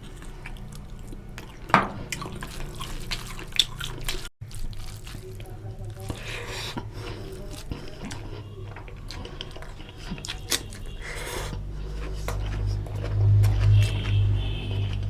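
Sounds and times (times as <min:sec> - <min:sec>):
person chewing with lip smacks: 0:00.0 - 0:15.0.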